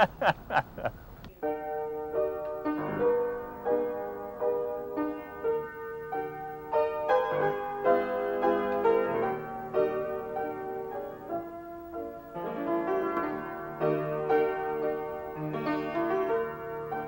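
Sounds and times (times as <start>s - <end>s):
gentle piano melody: 1.4s - 17.0s.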